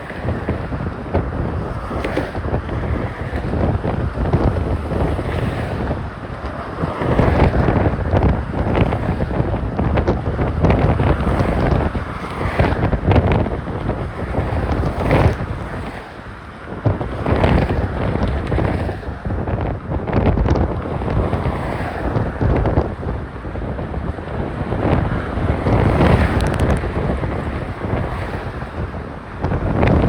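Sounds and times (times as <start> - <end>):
wind buffeting a microphone: 0.0 - 30.0.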